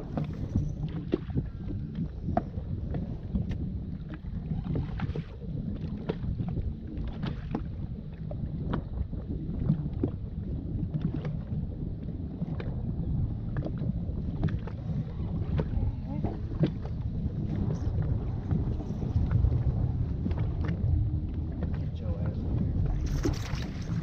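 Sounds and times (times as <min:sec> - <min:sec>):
gusty wind buffeting microphone: 0:00.0 - 0:24.0
water slapping against boat hull: 0:00.0 - 0:24.0.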